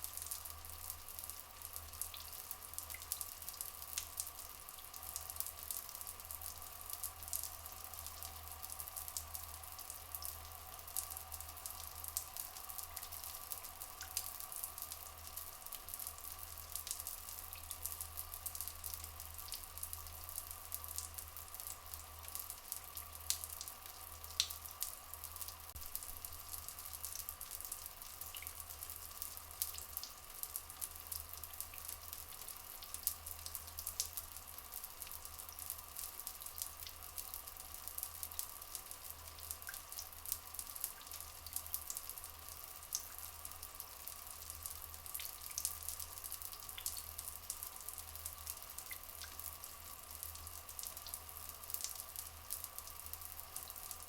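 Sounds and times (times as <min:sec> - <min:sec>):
water drips and crackles: 0:00.0 - 0:54.0.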